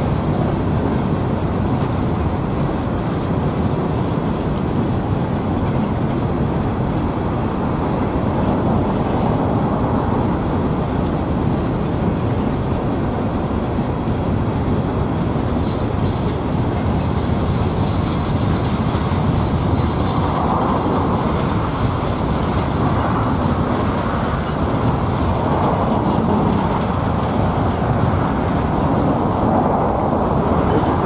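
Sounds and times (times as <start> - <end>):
freight train wheels clattering: 0.0 - 31.0.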